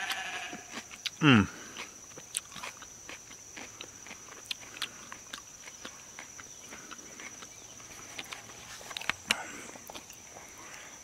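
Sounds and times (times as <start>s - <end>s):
chewing crunchy pepper: 0.0s - 11.0s.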